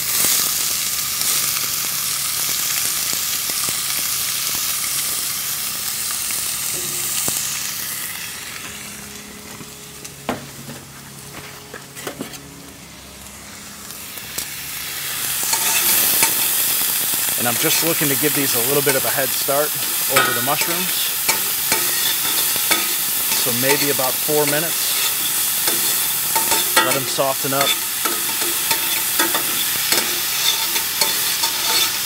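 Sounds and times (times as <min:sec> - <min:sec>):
onion sizzling in a pan: 0:00.0 - 0:09.9, 0:12.8 - 0:32.0.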